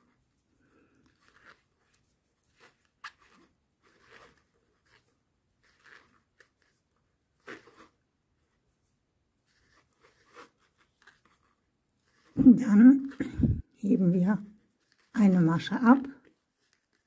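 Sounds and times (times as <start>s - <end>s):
knitting needles scraping and ticking: 0.0s - 8.5s, 9.4s - 17.0s.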